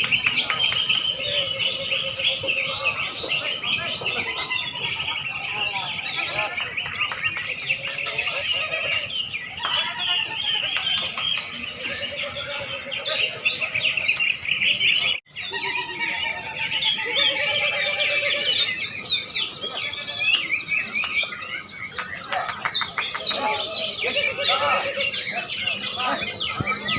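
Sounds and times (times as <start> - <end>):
songbirds singing in chorus: 0.0 - 26.9.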